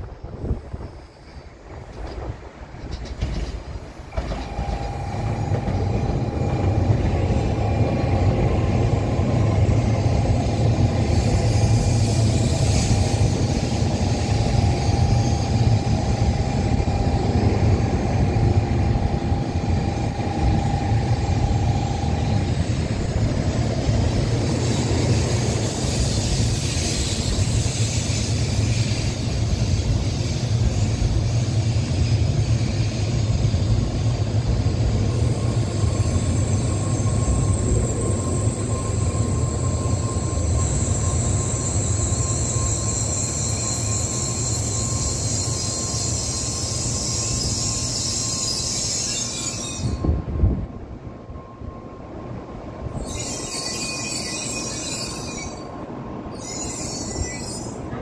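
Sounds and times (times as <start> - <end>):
train rumbling past: 0.0 - 58.0
high hiss and whine: 3.8 - 57.8.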